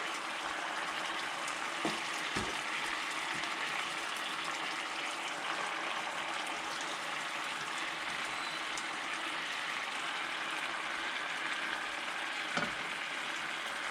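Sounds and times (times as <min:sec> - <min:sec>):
food bubbling and sizzling in pan: 0:00.0 - 0:13.9.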